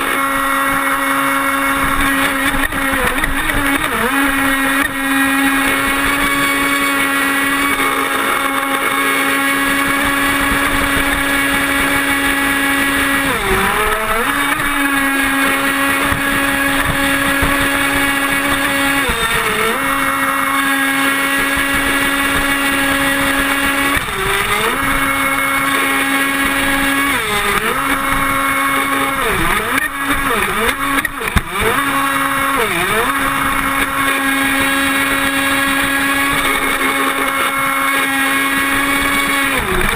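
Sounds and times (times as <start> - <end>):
toy boat motor whining: 0.0 - 39.9.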